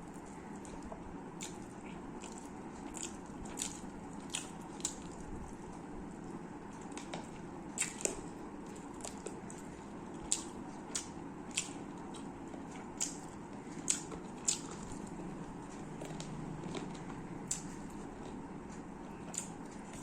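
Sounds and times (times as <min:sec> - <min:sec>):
background hum: 0:00.0 - 0:20.0
person chewing food: 0:00.0 - 0:20.0.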